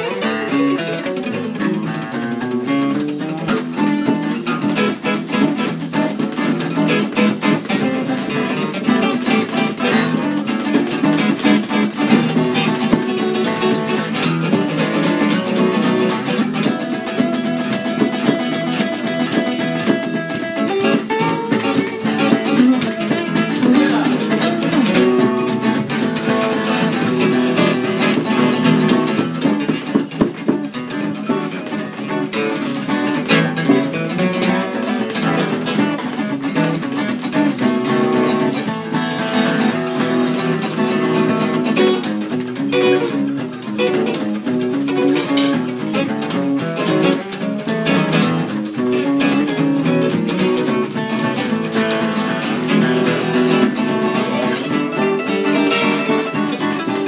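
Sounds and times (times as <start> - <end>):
acoustic guitar blues: 0.0 - 57.0.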